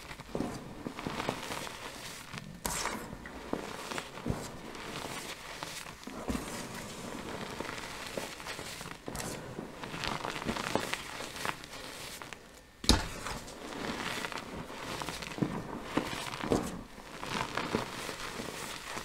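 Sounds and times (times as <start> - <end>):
hands crushing chalk powder: 0.0 - 19.0.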